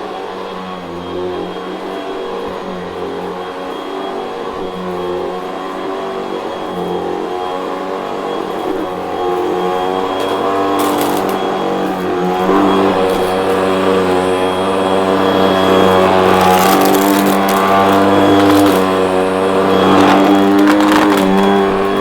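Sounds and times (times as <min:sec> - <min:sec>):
vacuum cleaner motor whining: 0:00.0 - 0:22.0.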